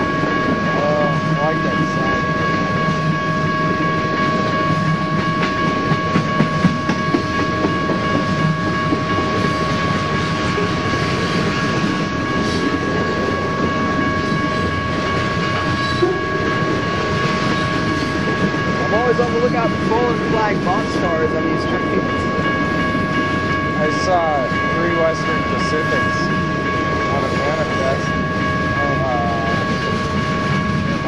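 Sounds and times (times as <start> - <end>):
freight train wheels rumbling: 0.0 - 31.0
steady high-pitched tone: 0.0 - 31.0.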